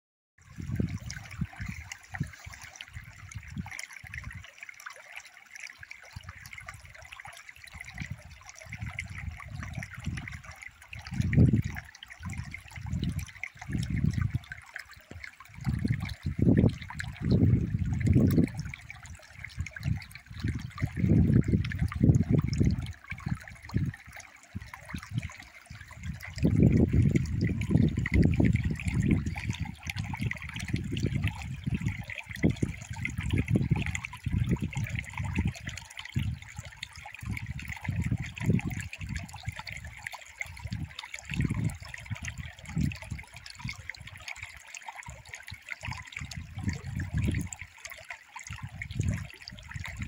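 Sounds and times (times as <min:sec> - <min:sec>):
stream babbling over pebbles: 0:00.4 - 0:50.0.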